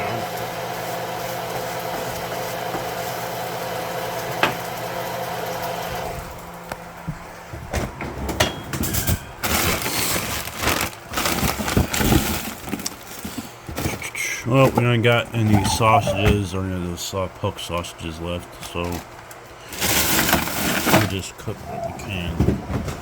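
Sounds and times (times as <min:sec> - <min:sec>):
steady appliance hum: 0:00.0 - 0:23.0.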